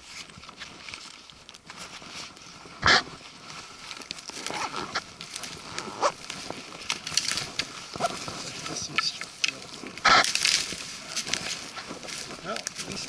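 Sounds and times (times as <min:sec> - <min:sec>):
footsteps crunching through leaves: 0:00.0 - 0:13.0.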